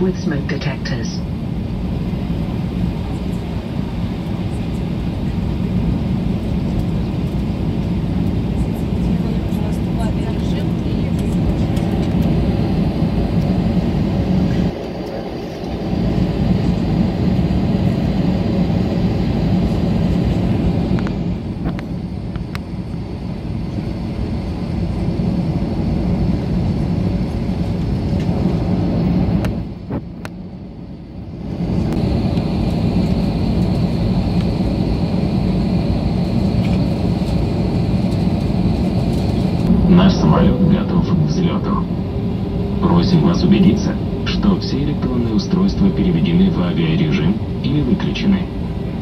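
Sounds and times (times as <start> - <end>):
jet cabin engine rumble and hum: 0.0 - 49.0.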